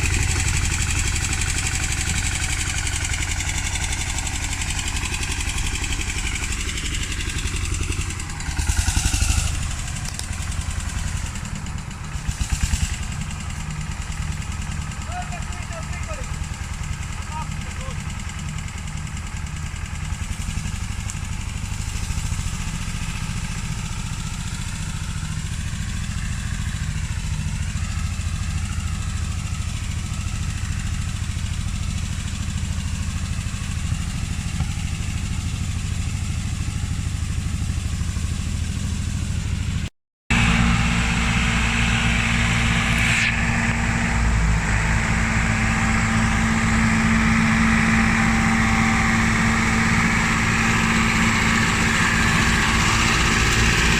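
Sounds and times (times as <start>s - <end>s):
tractor engines under load: 0.0s - 53.9s.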